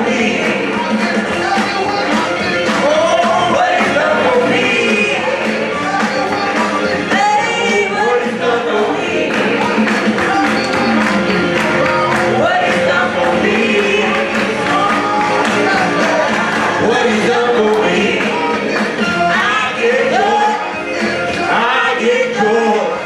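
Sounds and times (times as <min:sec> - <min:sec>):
instruments with steady beat: 0:00.0 - 0:21.9
people singing gospel: 0:00.0 - 0:23.0.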